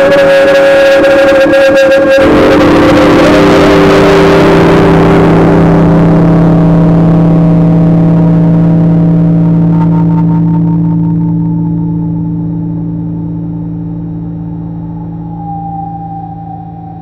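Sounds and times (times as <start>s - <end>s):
cymbal-like wash: 0.0s - 17.0s.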